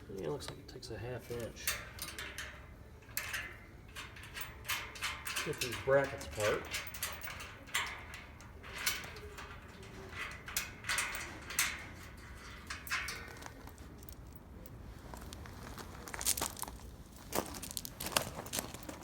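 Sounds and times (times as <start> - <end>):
wrench clinking on metal brackets: 0.1 - 19.0.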